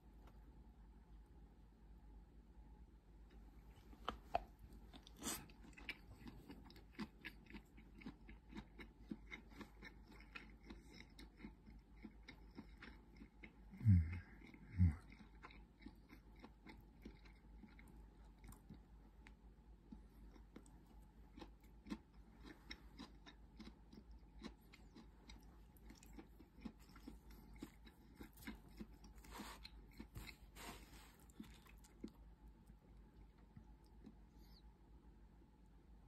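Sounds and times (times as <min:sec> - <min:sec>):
close-up chewing: 0:03.3 - 0:34.6.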